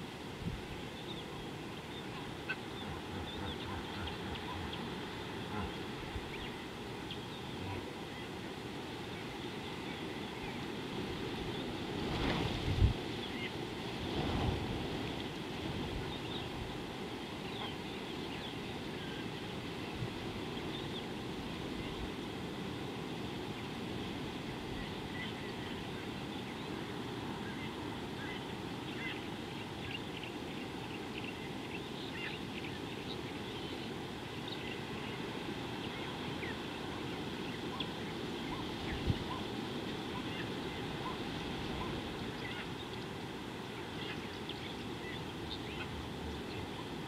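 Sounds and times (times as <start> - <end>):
wind-like hiss: 0.0 - 47.0.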